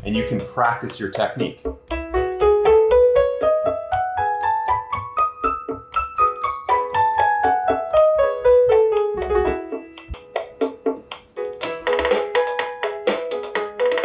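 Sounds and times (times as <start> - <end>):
keyboard accompaniment rhythm: 0.0 - 14.0
piano run of notes: 0.0 - 14.0.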